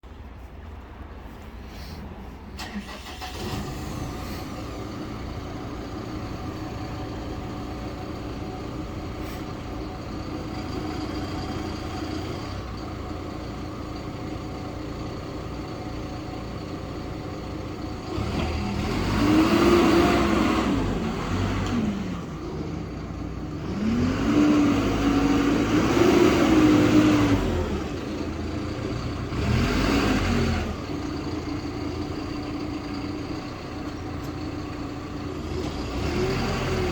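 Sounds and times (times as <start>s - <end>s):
diesel engine idling and revving: 0.1s - 36.9s.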